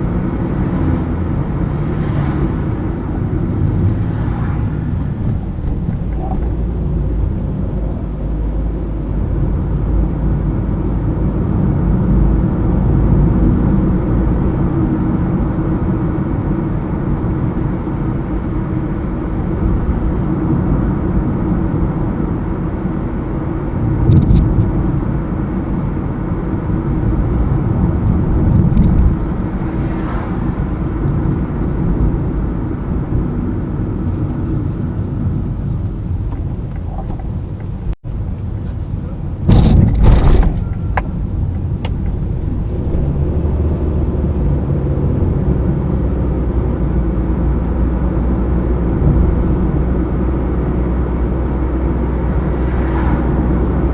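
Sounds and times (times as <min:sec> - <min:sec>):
car driving on highway: 0:00.0 - 0:53.9.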